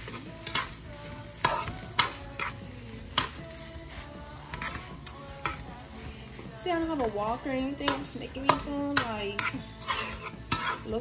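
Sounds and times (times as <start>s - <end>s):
background music: 0.0s - 11.0s
low sizzle: 0.0s - 11.0s
metal spoon scraping a frying pan: 0.0s - 11.0s.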